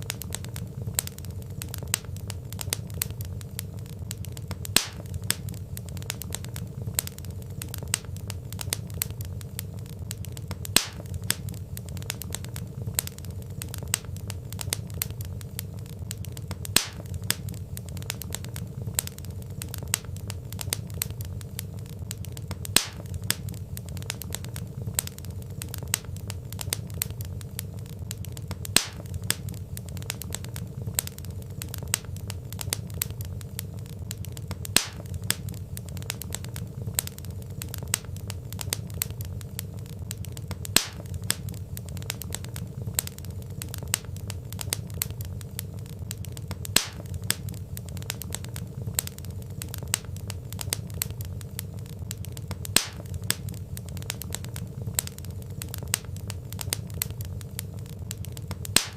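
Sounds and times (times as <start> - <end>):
logs crackling in a fireplace: 0.0 - 58.9
low rumble of flames: 0.0 - 58.9.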